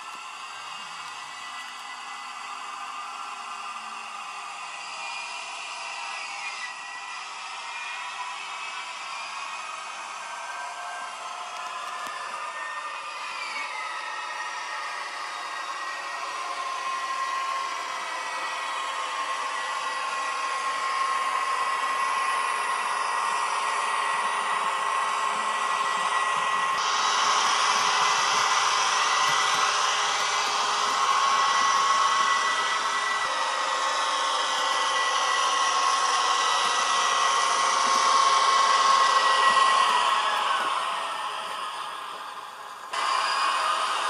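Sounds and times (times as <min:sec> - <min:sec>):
model trains whirring on track: 0:00.0 - 0:44.0.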